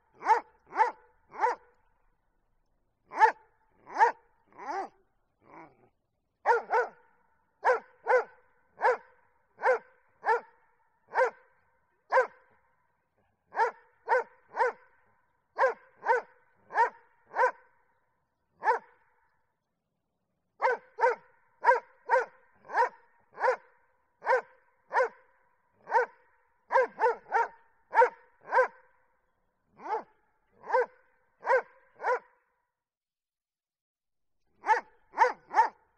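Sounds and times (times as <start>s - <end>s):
dog barking: 0.1s - 1.8s, 3.1s - 12.6s, 13.5s - 17.8s, 18.6s - 19.4s, 20.6s - 29.0s, 29.8s - 32.6s, 34.6s - 35.9s.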